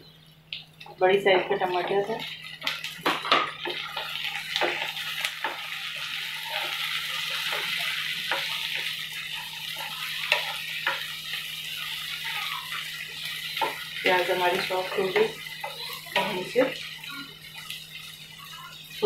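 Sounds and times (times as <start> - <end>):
vegetables sizzling in a pan: 0.6 - 19.0.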